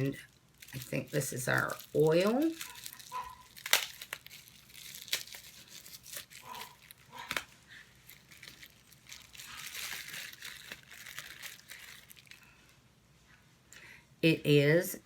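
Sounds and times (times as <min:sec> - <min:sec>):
paper wrapping rustling and tearing: 0:00.0 - 0:12.6.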